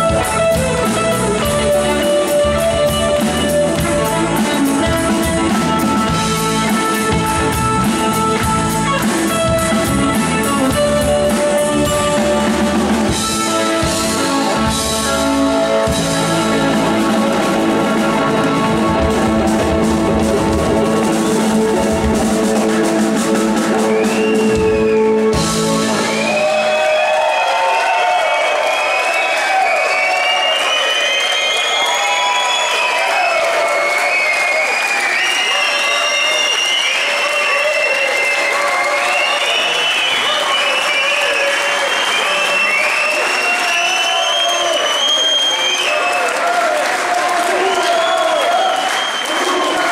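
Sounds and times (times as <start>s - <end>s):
live rock band playing: 0.0s - 31.0s, 31.6s - 49.9s
crowd cheering: 0.0s - 49.9s.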